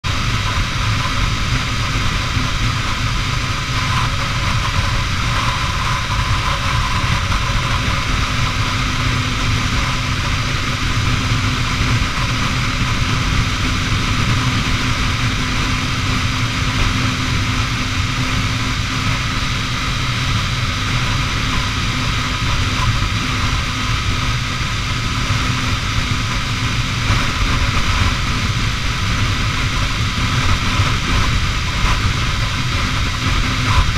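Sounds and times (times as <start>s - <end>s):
motorcycle engine cruising: 0.0s - 33.9s.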